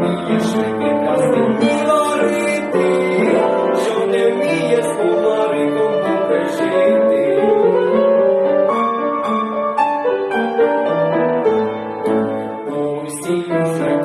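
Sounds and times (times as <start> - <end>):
piano playing folk arrangement: 0.0 - 14.0.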